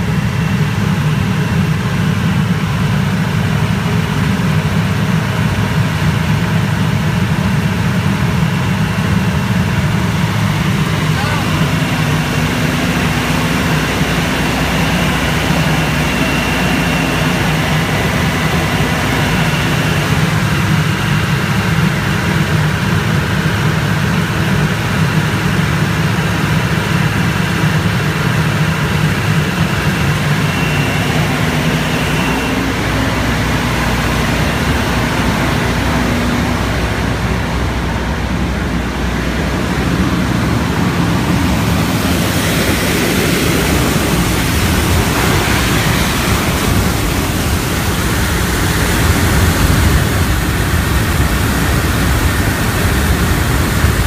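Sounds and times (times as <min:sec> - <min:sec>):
air-conditioning unit hum: 0:00.0 - 0:54.0.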